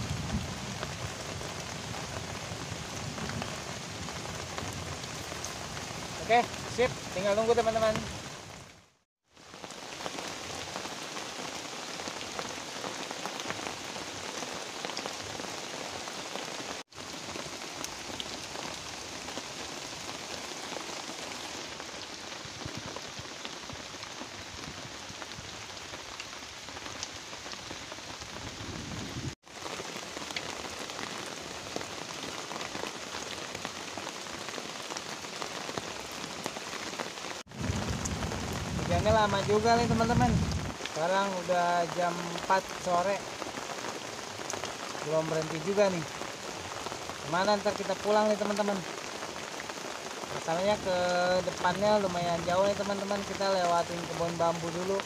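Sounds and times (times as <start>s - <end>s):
heavy rain on river: 0.0s - 55.0s.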